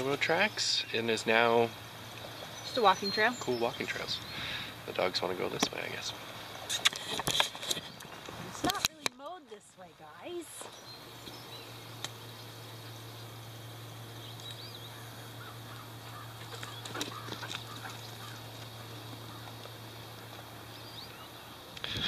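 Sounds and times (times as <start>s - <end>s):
faint bird calls chirping: 0.0s - 22.0s
steady low hum: 0.0s - 22.0s.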